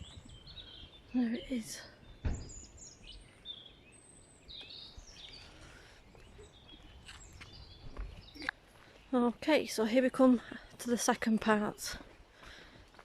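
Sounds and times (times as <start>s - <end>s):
small birds chirping: 0.0s - 12.9s
faint outdoor background noise: 0.0s - 13.0s.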